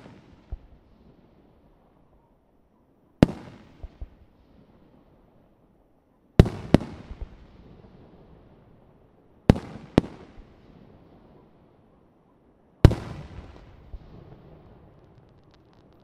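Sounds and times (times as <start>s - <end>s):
rumble of fireworks: 0.0s - 2.2s, 3.2s - 5.6s, 6.4s - 11.9s, 12.8s - 16.0s.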